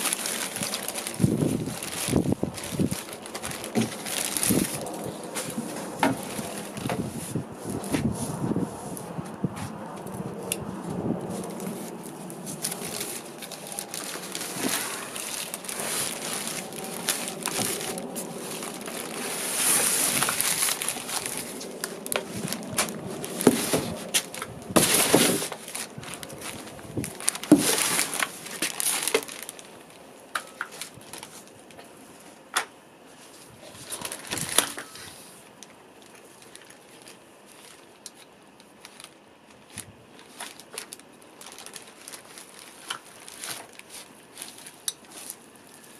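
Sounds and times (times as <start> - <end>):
cardboard and plastic crackling: 0.0 - 45.9.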